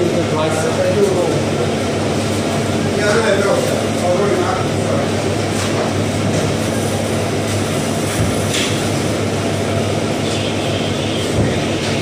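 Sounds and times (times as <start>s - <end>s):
machinery drone: 0.0s - 12.0s.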